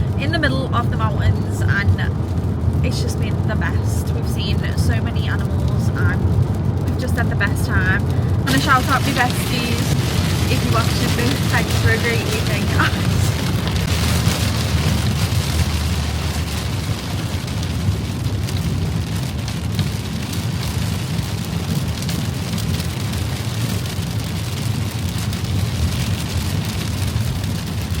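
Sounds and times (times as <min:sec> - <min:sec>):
car road rumble: 0:00.0 - 0:28.0
rain striking car windscreen: 0:00.0 - 0:28.0.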